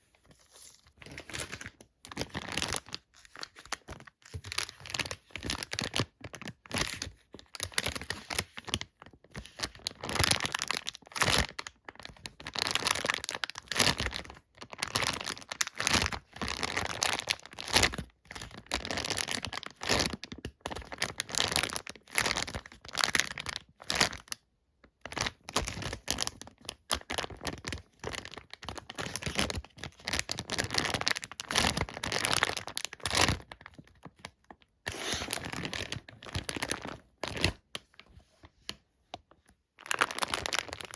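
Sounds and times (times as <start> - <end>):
plastic packaging crinkling and tearing: 0.1 - 24.4, 25.0 - 38.0, 39.8 - 40.9.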